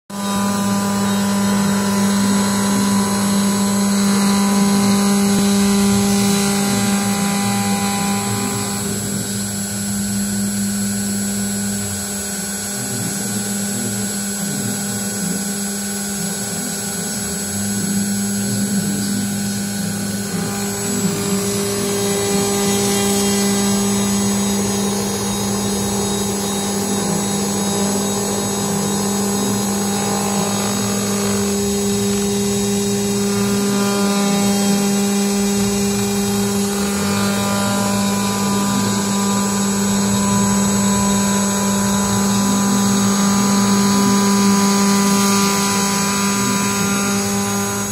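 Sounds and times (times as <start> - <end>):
ringing cutting whine: 0.1 - 47.9
router spindle humming: 0.1 - 47.9.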